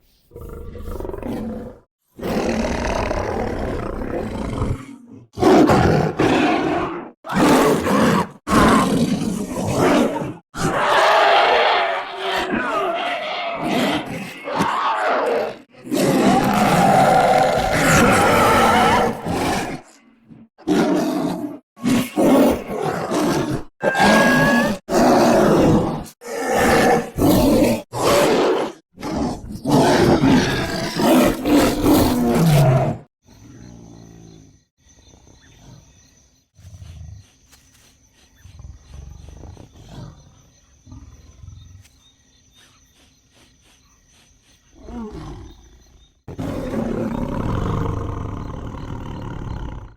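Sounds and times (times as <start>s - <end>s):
low growls and breaths: 0.0s - 7.2s, 12.0s - 37.5s, 38.2s - 42.0s, 42.6s - 49.9s
big cat roars and snarls: 0.0s - 37.6s, 38.4s - 42.0s, 44.7s - 49.9s.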